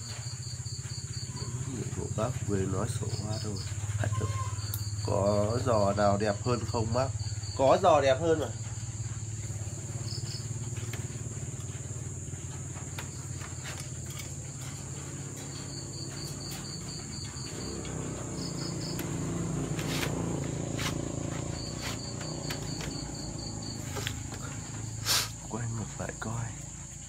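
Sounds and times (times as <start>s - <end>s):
cricket trilling: 0.0s - 27.0s
high-pitched insect drone: 0.0s - 27.0s.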